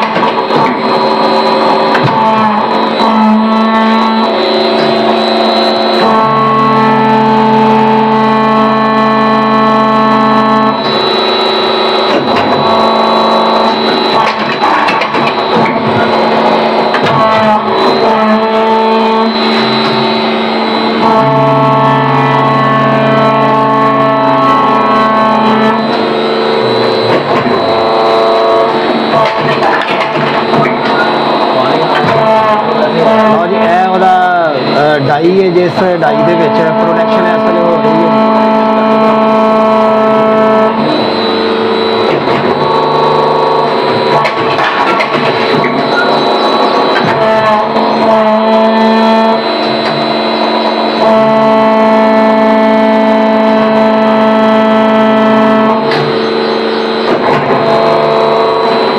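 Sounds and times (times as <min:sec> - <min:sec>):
held keyboard chords: 0:00.0 - 0:58.9.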